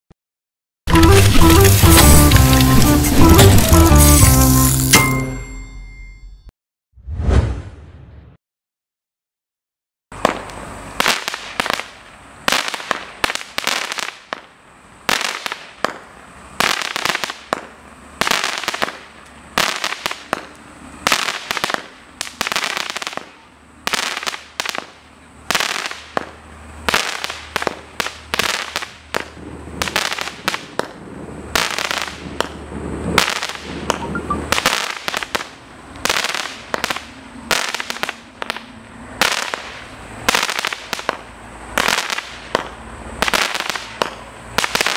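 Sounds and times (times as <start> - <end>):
fireworks cake firing bangs: 0.9 - 5.0, 10.2 - 14.5, 15.1 - 44.9.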